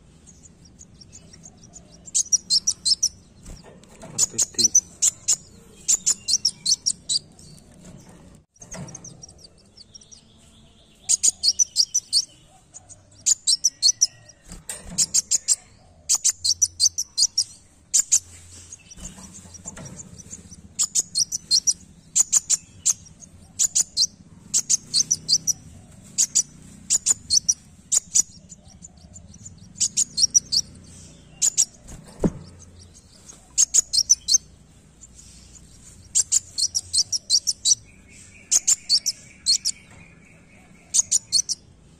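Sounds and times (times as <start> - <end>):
bird singing high chips: 0.0 - 41.9.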